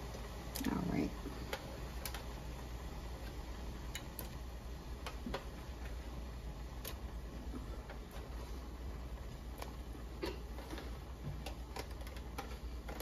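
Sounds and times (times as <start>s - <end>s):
pot simmering with pops: 0.0s - 13.0s
steady low hum: 0.0s - 13.0s.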